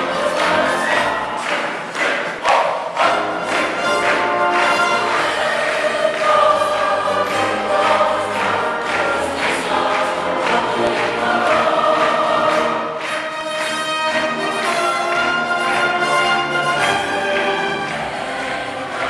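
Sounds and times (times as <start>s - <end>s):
church choir singing: 0.0s - 19.0s.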